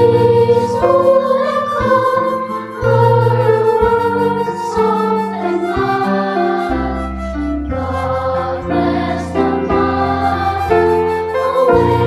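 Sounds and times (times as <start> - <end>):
children's choir singing: 0.0 - 12.0
low sustained accompaniment: 0.0 - 12.0.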